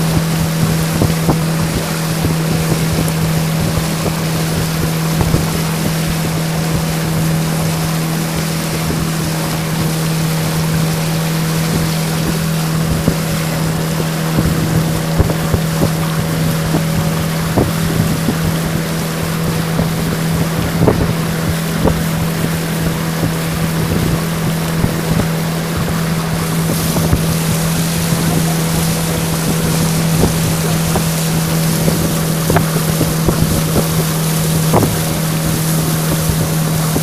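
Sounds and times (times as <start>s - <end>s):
outboard motor running: 0.0s - 37.0s
water rushing along hull: 0.0s - 37.0s
wind on microphone: 0.0s - 37.0s.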